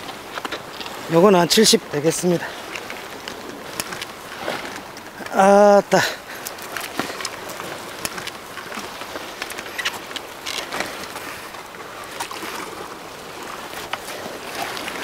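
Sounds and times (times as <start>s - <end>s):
water splashing against rocks: 0.0s - 15.0s.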